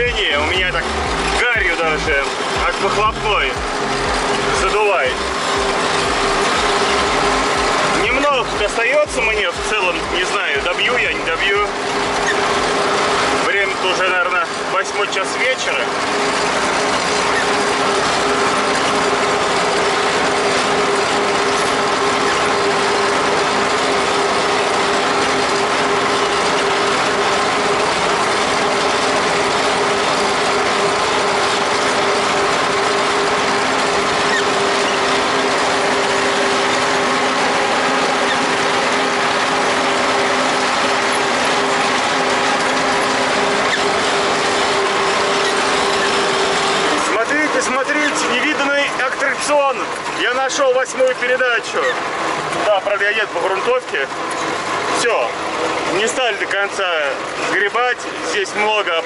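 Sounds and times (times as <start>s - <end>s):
haymaking machinery clattering: 0.0s - 59.0s
steady mechanical hum: 0.0s - 59.0s.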